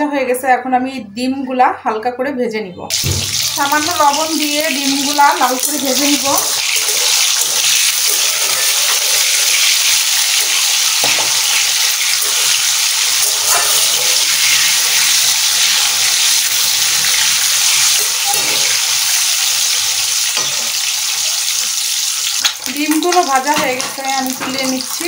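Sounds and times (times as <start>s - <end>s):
eggs sizzling in hot oil: 2.9s - 25.0s.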